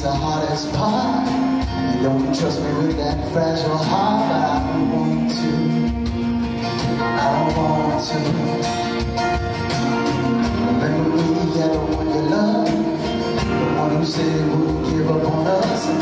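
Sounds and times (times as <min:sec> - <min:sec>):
acoustic guitars strummed: 0:00.0 - 0:16.0.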